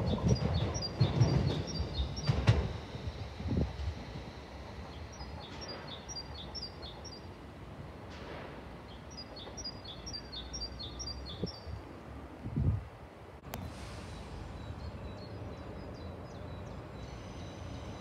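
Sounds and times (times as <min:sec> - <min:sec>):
songbird singing: 0:00.0 - 0:07.4, 0:08.8 - 0:11.9, 0:13.5 - 0:18.0.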